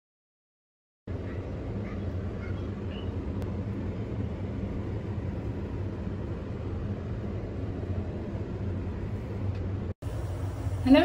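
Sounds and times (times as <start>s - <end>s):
low hum and rumble: 1.1s - 11.0s.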